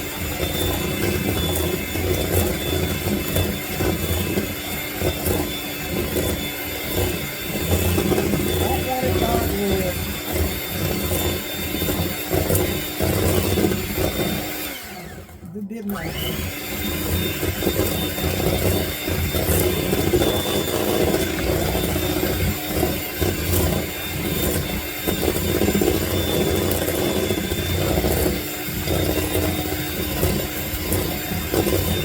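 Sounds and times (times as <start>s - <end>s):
electric mixer whirring: 0.0s - 32.0s.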